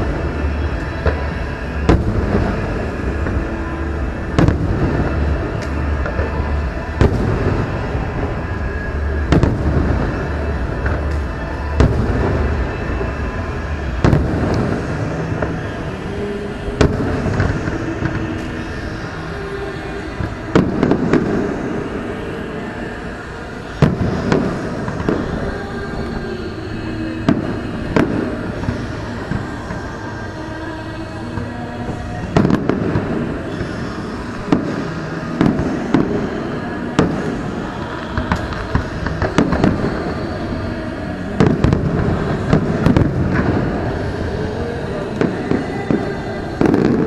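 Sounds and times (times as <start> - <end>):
firework bangs: 0.0 - 47.0
fireworks rumble and crackle: 0.0 - 47.0.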